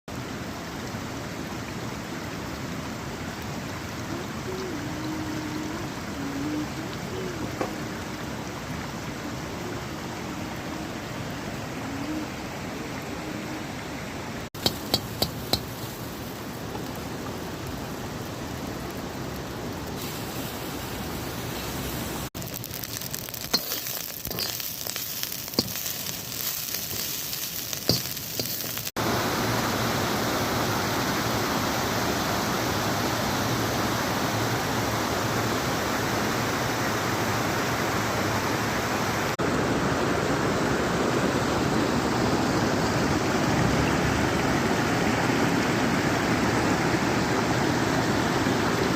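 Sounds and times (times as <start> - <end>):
running water rushing: 0.1 - 48.9.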